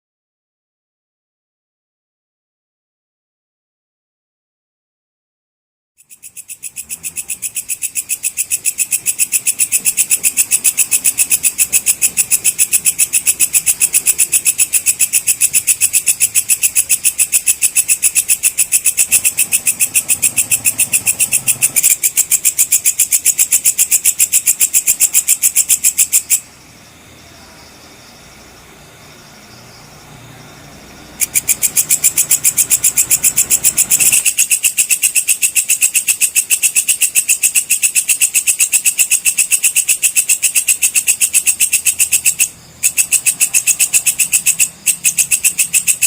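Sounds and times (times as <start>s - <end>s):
insect clicking call: 6.0s - 26.8s, 27.6s - 46.0s.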